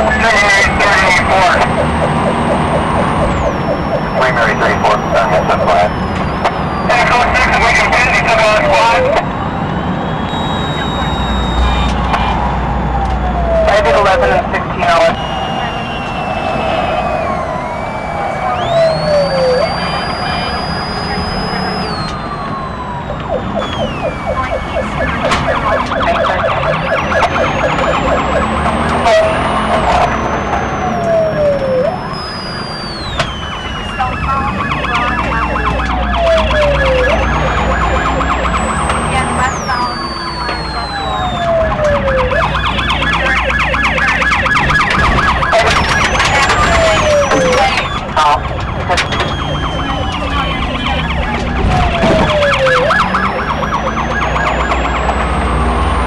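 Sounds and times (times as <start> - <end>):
low vehicle rumble: 0.0 - 56.0
police siren yelping: 0.0 - 56.0.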